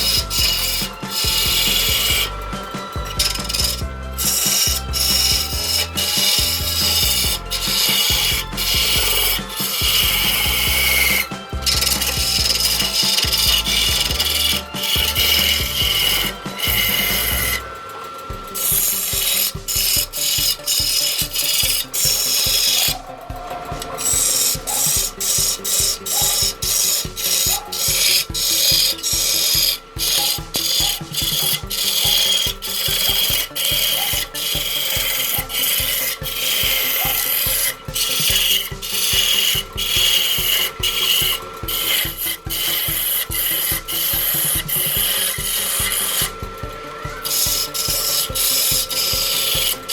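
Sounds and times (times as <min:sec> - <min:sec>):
faint machine whine: 0:00.0 - 0:49.9
tool scraping spinning wood: 0:00.0 - 0:49.9
woodturning lathe running: 0:00.0 - 0:49.9.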